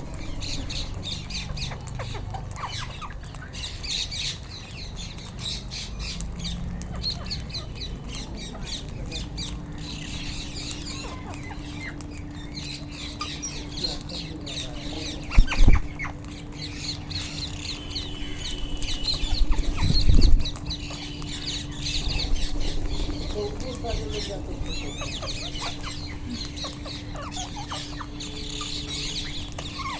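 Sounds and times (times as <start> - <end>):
parakeets chirping and squawking: 0.0 - 29.9.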